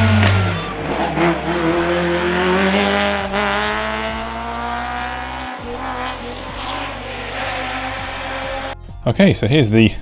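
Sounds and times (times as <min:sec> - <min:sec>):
vehicle engine accelerating: 0:00.0 - 0:08.8.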